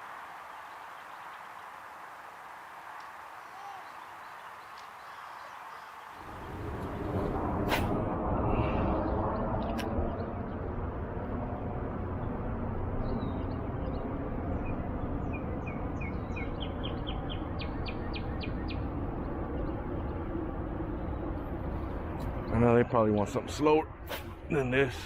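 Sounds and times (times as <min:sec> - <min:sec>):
songbird singing: 0:00.0 - 0:07.3, 0:12.1 - 0:25.0
low outdoor rumble: 0:01.6 - 0:25.0.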